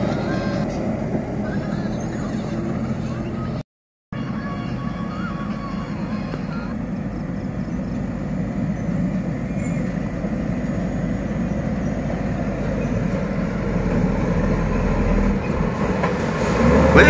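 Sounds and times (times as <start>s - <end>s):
diesel truck engine running: 0.0s - 3.6s, 4.2s - 17.0s.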